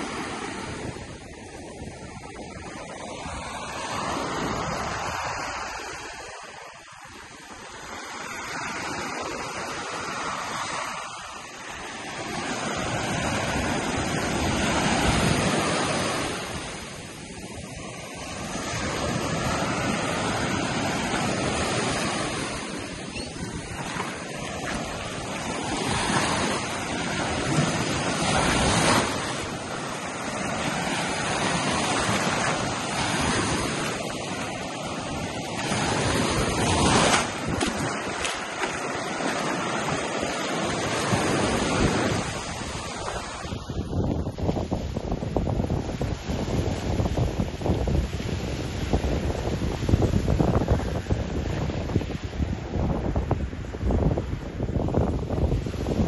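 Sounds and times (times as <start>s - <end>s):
waves breaking on beach: 0.0s - 56.0s
wind buffeting microphone: 0.0s - 56.0s.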